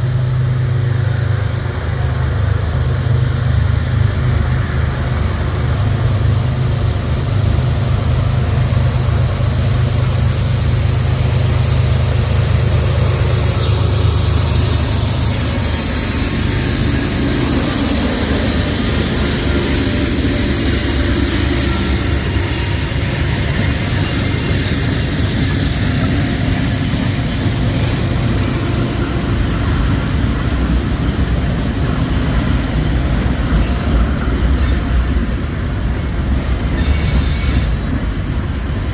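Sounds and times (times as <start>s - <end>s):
diesel locomotive engines humming: 0.0s - 38.9s
wheels squealing on rails: 0.0s - 38.9s.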